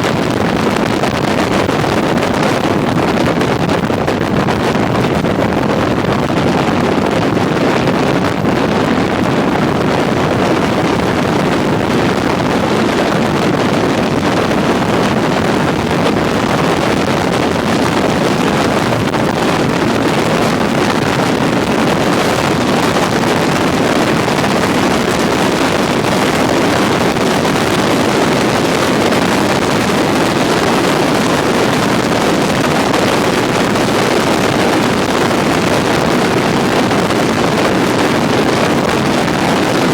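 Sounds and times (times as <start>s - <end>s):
road and engine noise: 0.0s - 39.9s
wind buffeting microphone: 0.0s - 39.9s.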